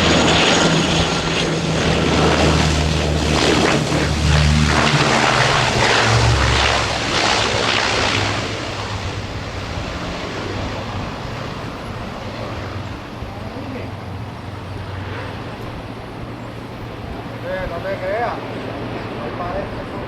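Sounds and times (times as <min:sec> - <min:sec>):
airplane engines passing: 0:00.0 - 0:20.0.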